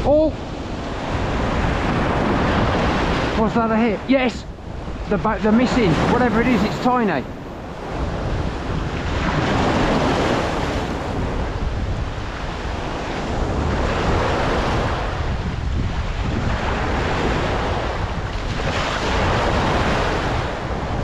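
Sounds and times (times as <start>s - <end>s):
wind buffeting microphone: 0.0s - 21.0s
small sea waves breaking: 0.1s - 21.0s.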